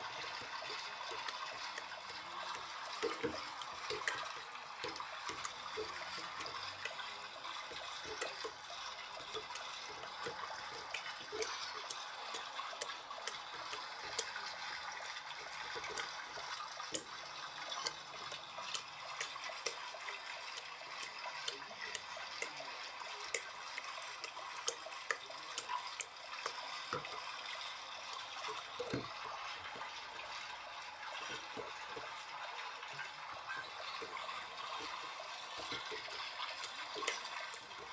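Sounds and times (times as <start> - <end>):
washing machine water splashing: 0.0 - 37.9.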